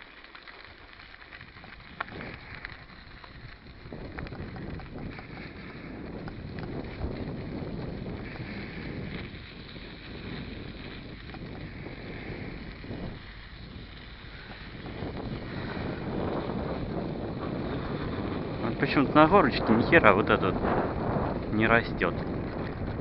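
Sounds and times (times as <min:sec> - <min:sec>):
bike rattling: 0:00.0 - 0:23.0
tyres rumbling on dirt track: 0:00.0 - 0:23.0
wind buffeting microphone: 0:01.2 - 0:23.0.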